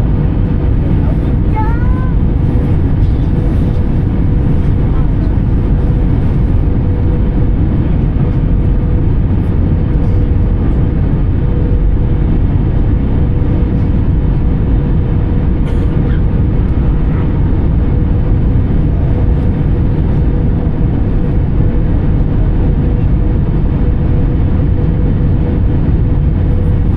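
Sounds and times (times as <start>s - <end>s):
aircraft cabin engine rumble: 0.0s - 26.9s.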